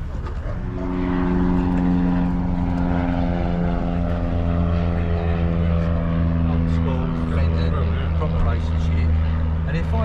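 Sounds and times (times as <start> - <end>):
propeller aircraft engine drone: 0.0 - 10.0.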